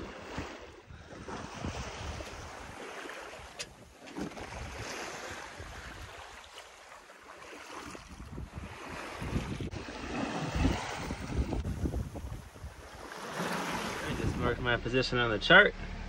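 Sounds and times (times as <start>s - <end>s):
wind on microphone: 0.0s - 6.2s, 7.9s - 14.6s
water splashing along a hull: 0.0s - 16.0s.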